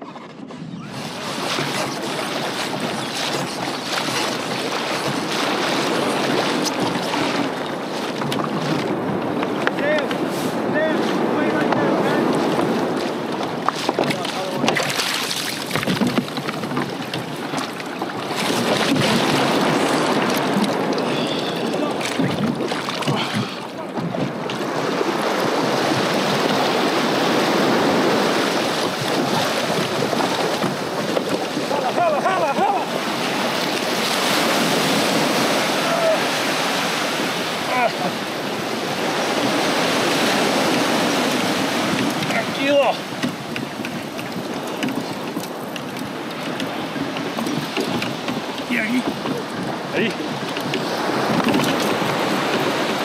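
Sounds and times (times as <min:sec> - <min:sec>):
water splashing along hull: 0:00.0 - 0:53.0
wind: 0:00.0 - 0:53.0.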